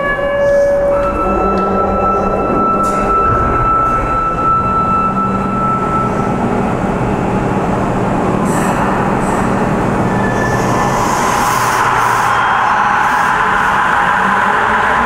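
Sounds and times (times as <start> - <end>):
high steady tone: 0.0 - 15.0
subway train hum: 0.0 - 15.0.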